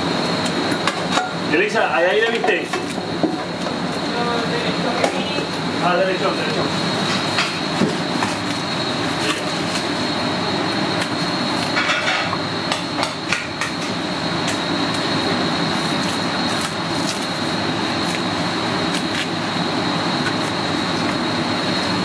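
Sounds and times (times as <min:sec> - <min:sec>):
high-pitched whine: 0:00.0 - 0:22.0
kitchen equipment hum: 0:00.0 - 0:22.0.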